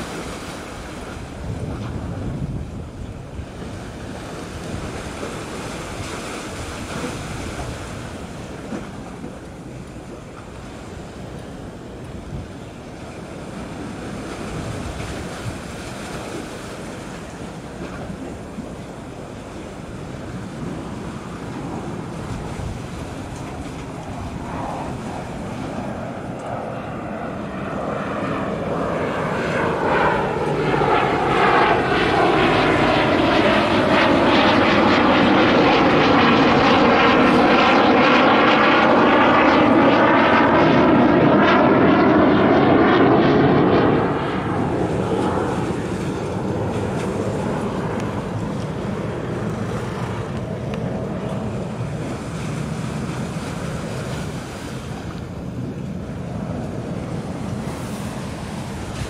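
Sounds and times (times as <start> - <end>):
jet aircraft flying overhead: 0.0 - 59.0.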